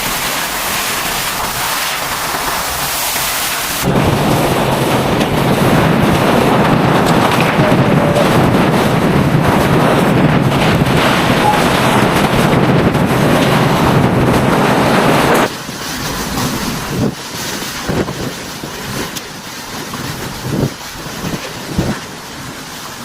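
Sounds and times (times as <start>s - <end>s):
gusty wind: 0.0s - 23.0s
strong wind blasting microphone: 0.0s - 23.0s.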